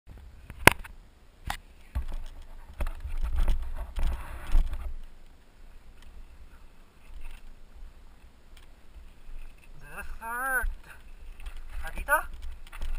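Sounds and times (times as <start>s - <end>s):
low rumbling and rustling: 0.1s - 12.9s.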